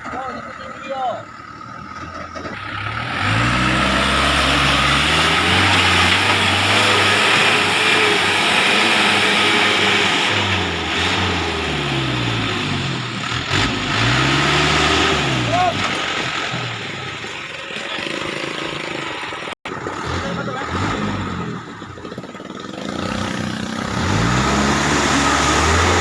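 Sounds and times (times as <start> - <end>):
truck engine labouring: 0.0 - 26.0.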